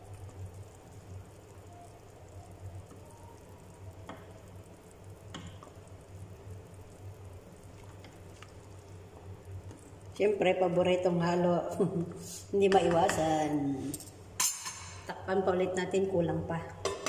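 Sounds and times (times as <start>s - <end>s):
broth simmering in a pot: 0.0s - 17.0s.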